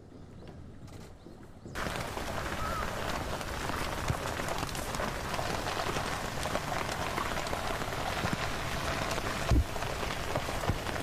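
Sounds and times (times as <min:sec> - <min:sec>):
rain pattering: 0:01.8 - 0:11.0.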